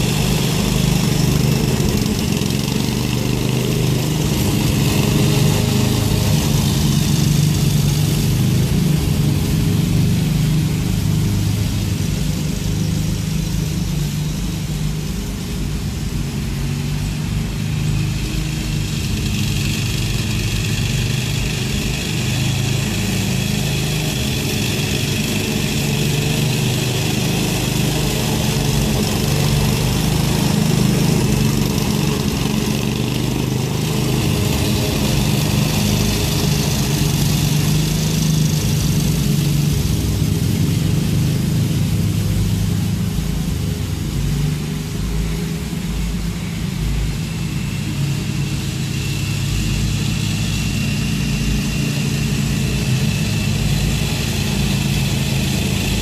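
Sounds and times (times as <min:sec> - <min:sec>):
riding mower engine droning: 0:00.0 - 0:56.0.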